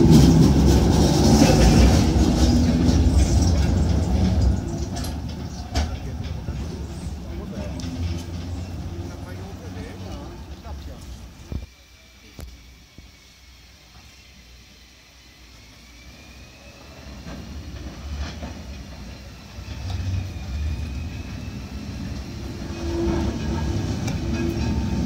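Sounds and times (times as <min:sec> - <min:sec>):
tram wheels rumbling on rails: 0:00.0 - 0:25.0.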